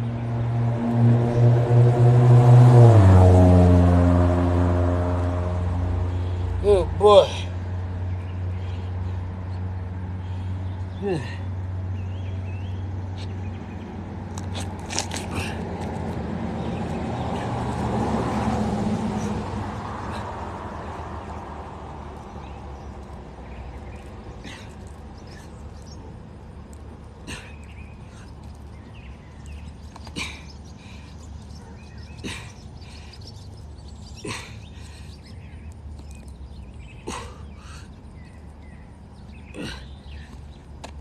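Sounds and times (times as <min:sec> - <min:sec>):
birds chirping: 0:04.9 - 0:41.0.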